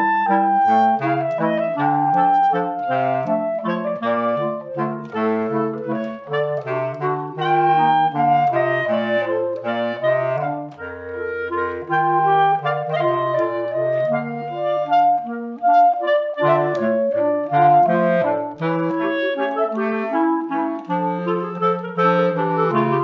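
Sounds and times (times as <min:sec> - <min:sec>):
clarinet quartet playing: 0:00.0 - 0:23.0.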